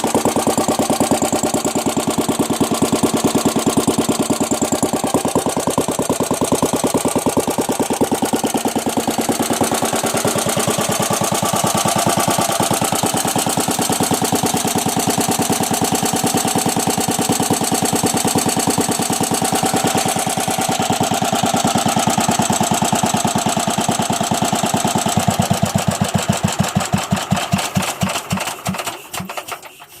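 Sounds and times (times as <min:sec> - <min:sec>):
single-cylinder engine running: 0:00.0 - 0:30.0.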